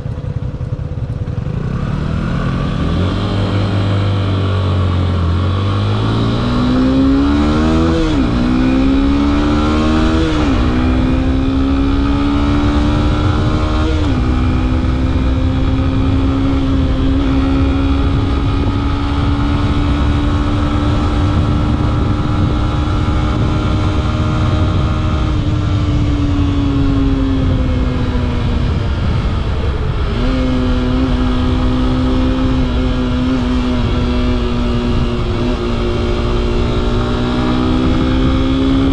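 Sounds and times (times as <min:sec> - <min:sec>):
motorcycle engine accelerating: 0:00.0 - 0:38.9
wind rumbling: 0:00.0 - 0:38.9.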